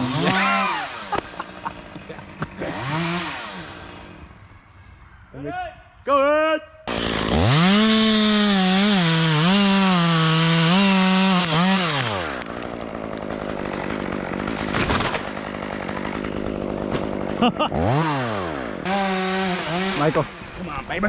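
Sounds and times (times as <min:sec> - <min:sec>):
chainsaw running: 0:00.0 - 0:04.5, 0:06.9 - 0:21.0.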